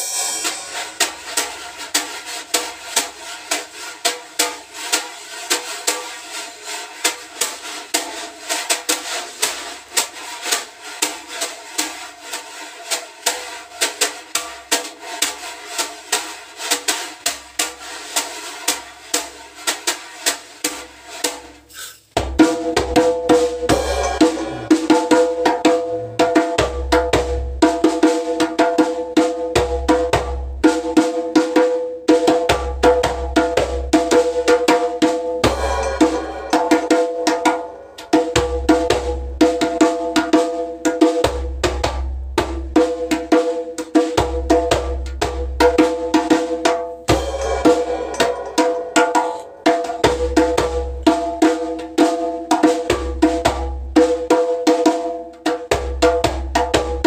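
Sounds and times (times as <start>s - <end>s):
djembe played by hand: 0.0s - 57.0s
djembe played with brushes: 0.0s - 57.0s.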